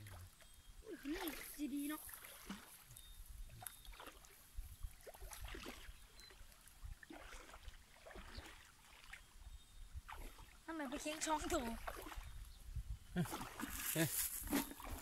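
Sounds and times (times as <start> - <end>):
water sloshing and splashing: 0.0 - 12.6, 13.2 - 15.0.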